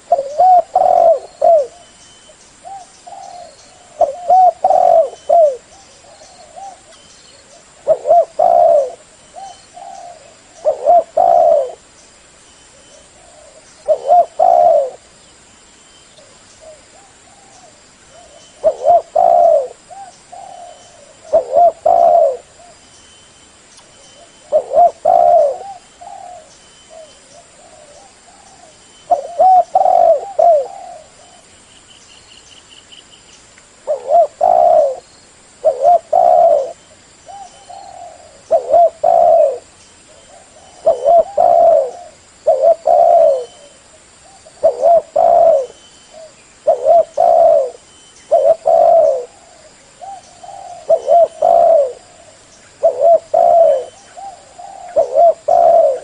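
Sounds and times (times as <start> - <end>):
dove cooing: 0.0 - 2.0, 2.6 - 11.9, 12.7 - 15.1, 16.2 - 22.8, 24.2 - 31.5, 33.8 - 56.0.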